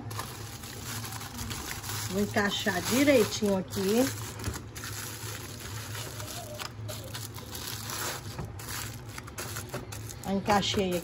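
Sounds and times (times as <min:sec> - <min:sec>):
aluminium foil crinkling: 0:00.0 - 0:11.0
low steady hum: 0:00.0 - 0:11.0.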